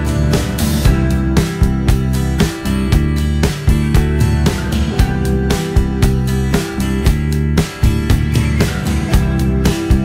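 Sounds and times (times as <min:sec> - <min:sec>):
song with strummed guitar and beat: 0:00.0 - 0:10.0.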